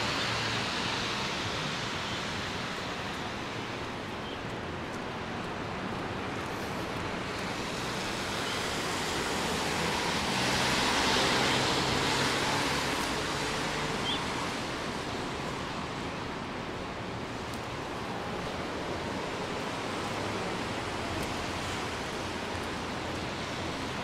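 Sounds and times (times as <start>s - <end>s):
low traffic hum: 0.0s - 24.0s
rain hissing on street: 0.0s - 24.0s
tyres swishing on wet road: 0.0s - 24.0s.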